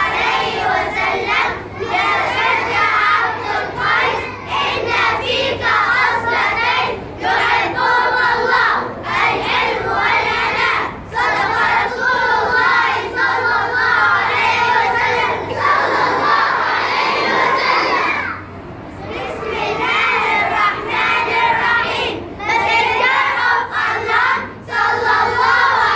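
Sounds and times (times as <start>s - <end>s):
children singing in unison: 0.0s - 18.3s, 19.0s - 25.9s.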